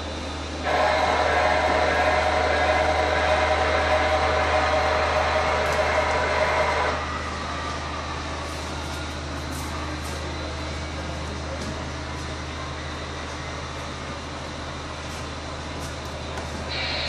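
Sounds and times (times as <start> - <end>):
model train rumbling with whine: 0.0 - 17.0.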